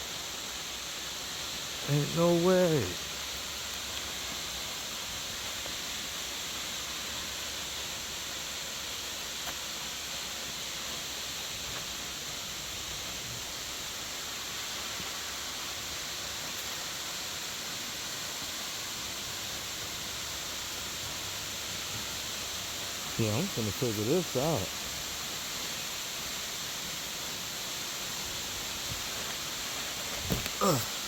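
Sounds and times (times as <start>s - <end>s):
rushing water hiss: 0.0s - 31.0s.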